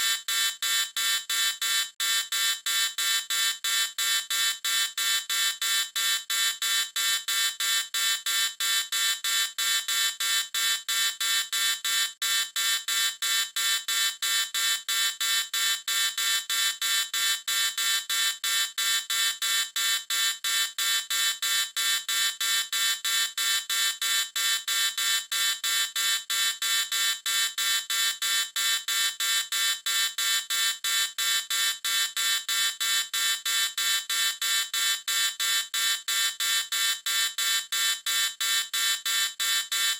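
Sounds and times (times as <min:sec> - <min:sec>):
electronic alarm beeping rapidly: 0:00.0 - 0:39.9.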